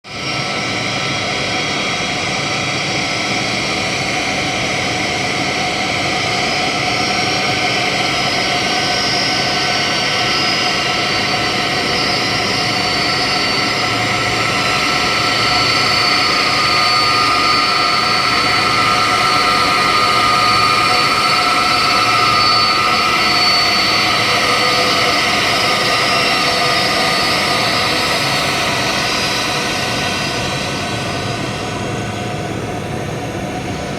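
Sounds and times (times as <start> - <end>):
aircraft engines whining: 0.1 - 33.9.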